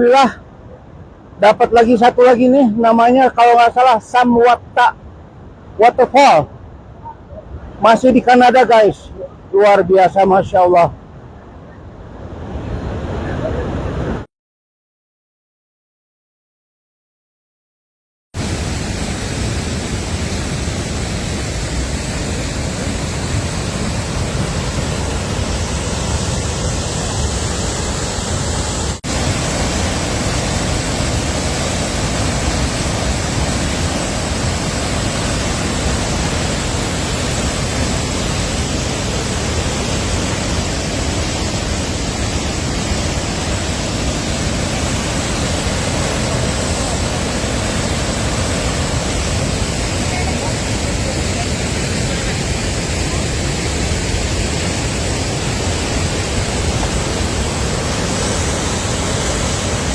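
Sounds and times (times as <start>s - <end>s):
waterfall roaring: 1.2s - 5.0s, 5.6s - 10.9s, 18.4s - 59.9s.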